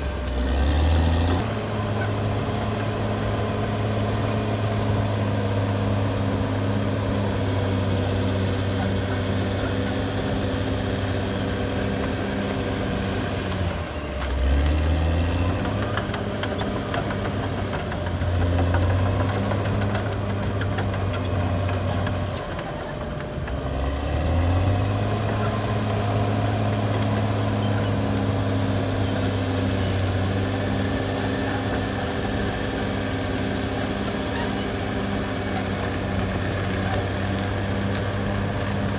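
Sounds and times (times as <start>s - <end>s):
bulldozer diesel engine under load: 0.0s - 38.9s
short high squeaks: 0.0s - 38.9s.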